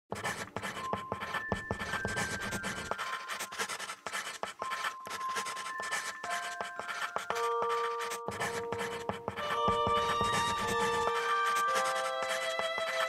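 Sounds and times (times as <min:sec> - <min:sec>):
pencil scratching on paper: 0:00.1 - 0:13.0.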